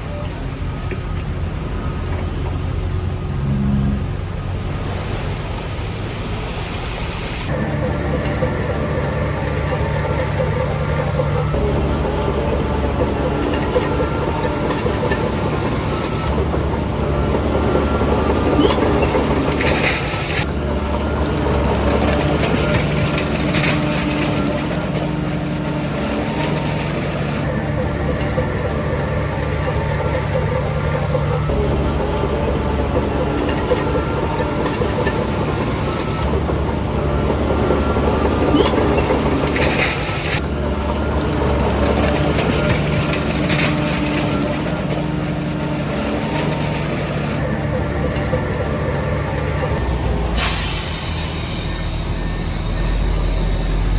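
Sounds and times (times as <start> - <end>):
bulldozer diesel engine running: 0.0 - 53.9
crawler tracks clattering: 7.0 - 53.9.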